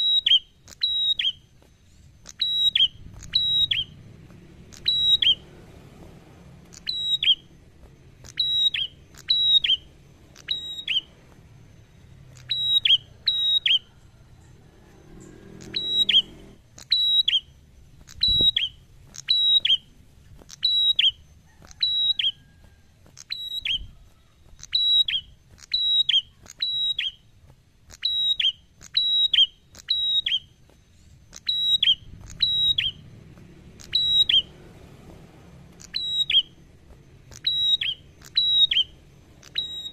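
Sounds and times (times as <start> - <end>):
songbird calling: 0.0 - 39.9.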